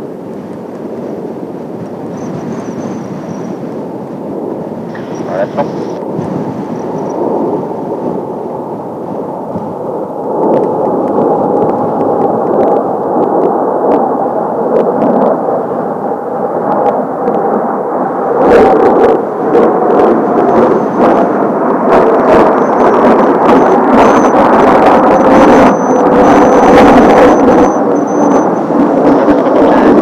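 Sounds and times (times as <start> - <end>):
jet aircraft roar: 0.0 - 30.0
wind gusts on microphone: 0.0 - 30.0.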